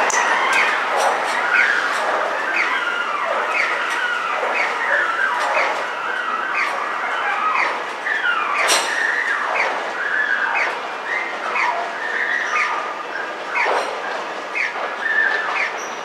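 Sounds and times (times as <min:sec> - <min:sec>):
roll-up shutter squealing: 0:00.0 - 0:16.0.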